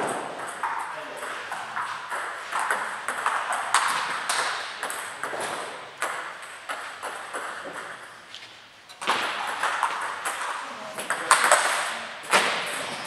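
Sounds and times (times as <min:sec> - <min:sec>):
table tennis balls clicking: 0:00.0 - 0:08.2, 0:08.9 - 0:13.0.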